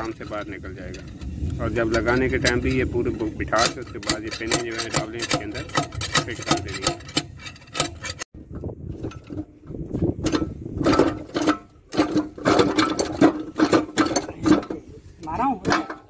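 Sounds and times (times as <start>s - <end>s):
metal gearbox parts clanking: 0.0s - 16.0s.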